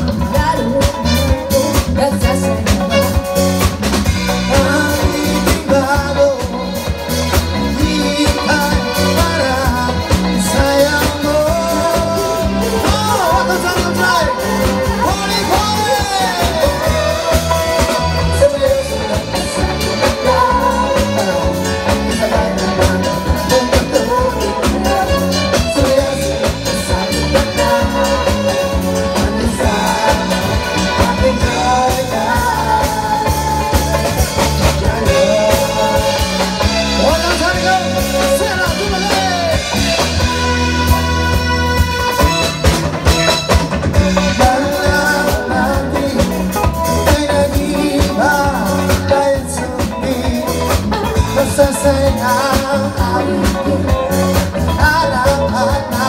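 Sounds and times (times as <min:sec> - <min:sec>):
live band playing: 0:00.0 - 0:56.0
people singing into microphones: 0:04.2 - 0:40.5, 0:44.0 - 0:56.0.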